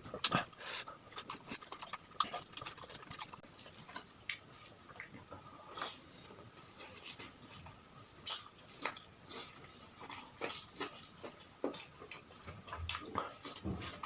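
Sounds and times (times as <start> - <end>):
person chewing and lip smacking: 0.2 - 6.0, 6.6 - 14.0.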